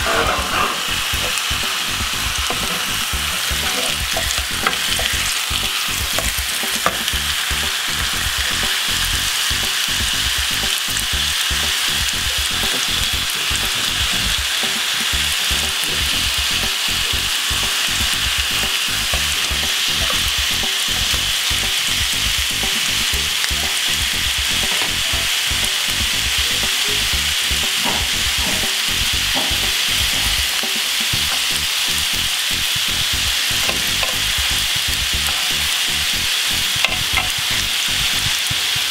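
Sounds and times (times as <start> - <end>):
meat sizzling in grill pan: 0.0 - 38.9.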